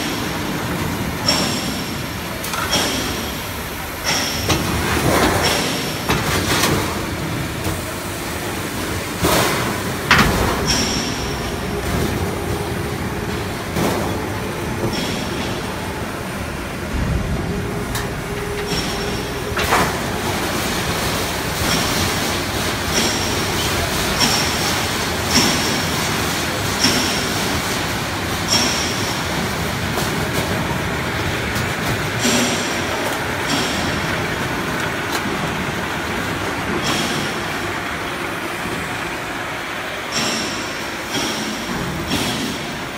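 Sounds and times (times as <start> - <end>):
machine running: 0.0 - 42.9.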